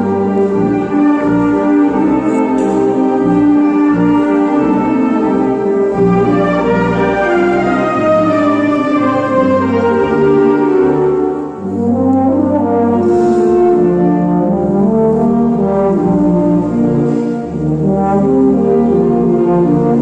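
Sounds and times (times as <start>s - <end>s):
solo euphonium melody: 0.0s - 20.0s
wind band accompaniment: 0.0s - 20.0s.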